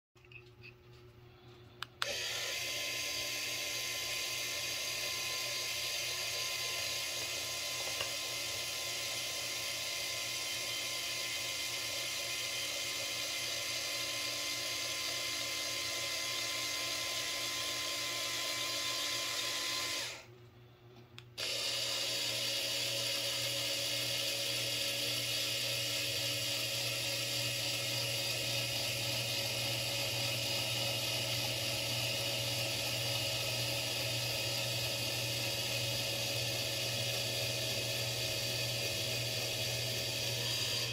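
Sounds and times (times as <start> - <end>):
electric actuator motor whining: 2.0 - 20.3, 21.3 - 40.9.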